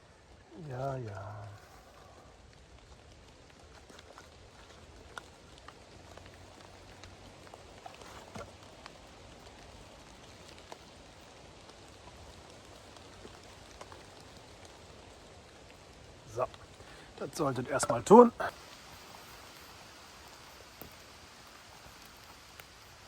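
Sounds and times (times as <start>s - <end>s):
faint outdoor ambience: 0.0s - 23.0s.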